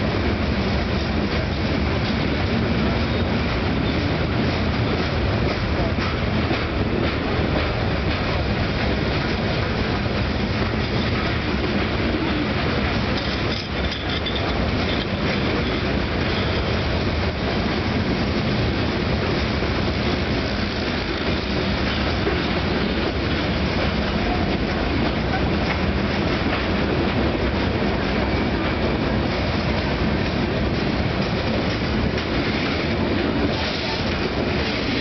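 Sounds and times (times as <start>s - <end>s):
freight wagons rumbling and rattling: 0.0s - 35.0s
rail joints clicking: 0.0s - 35.0s.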